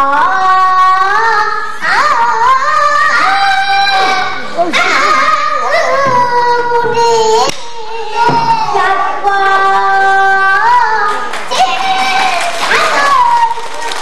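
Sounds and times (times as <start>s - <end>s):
girl singing: 0.0s - 13.8s.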